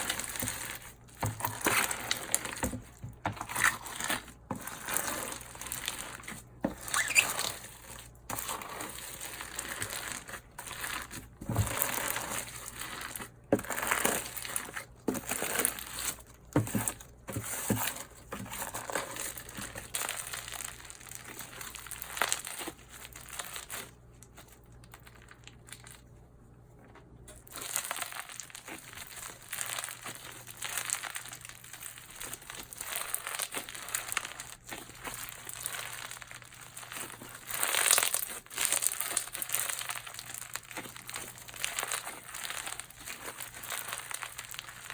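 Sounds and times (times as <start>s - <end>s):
hands kneading slime crackling: 0.0s - 26.1s, 27.4s - 44.9s.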